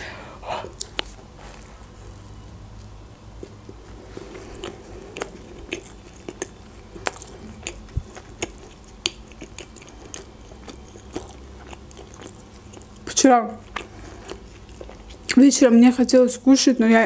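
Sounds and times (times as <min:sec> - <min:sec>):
person chewing sandwich crunchily: 0:00.7 - 0:15.4.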